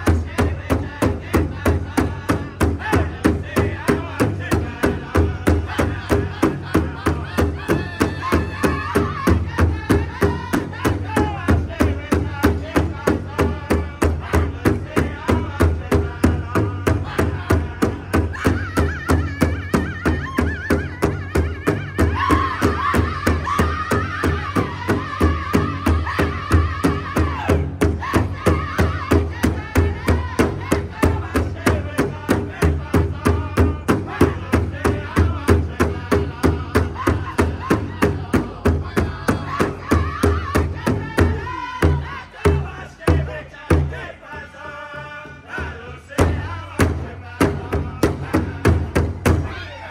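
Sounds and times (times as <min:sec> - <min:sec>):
large hand drum beating: 0:00.0 - 0:44.0, 0:45.6 - 0:49.6
high wavering group singing: 0:00.0 - 0:49.9.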